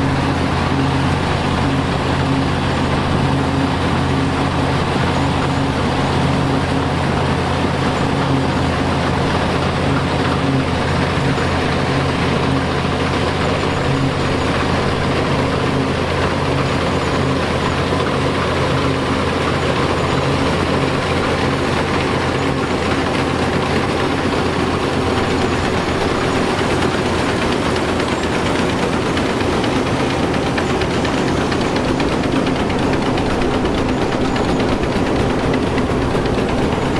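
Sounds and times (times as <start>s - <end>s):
farm machine engine droning: 0.0s - 36.9s.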